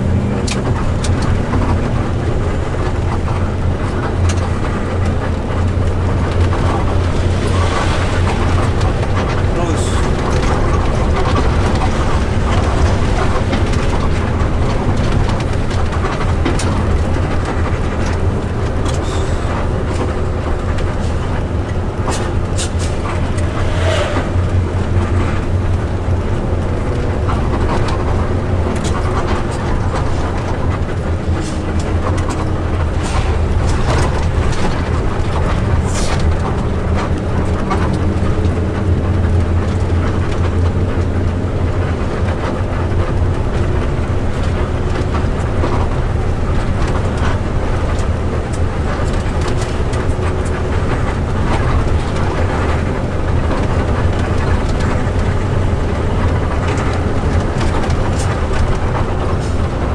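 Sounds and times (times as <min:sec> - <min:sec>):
bus engine and road rumble: 0:00.0 - 0:59.9
rattles and knocks: 0:00.0 - 0:59.9.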